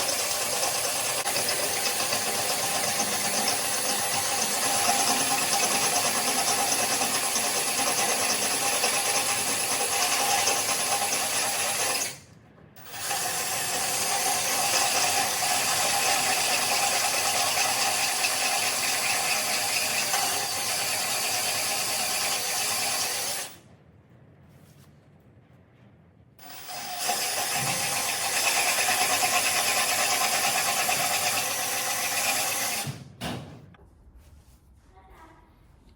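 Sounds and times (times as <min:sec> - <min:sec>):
electric drill running: 0:00.0 - 0:12.2, 0:12.8 - 0:23.6, 0:26.4 - 0:32.9.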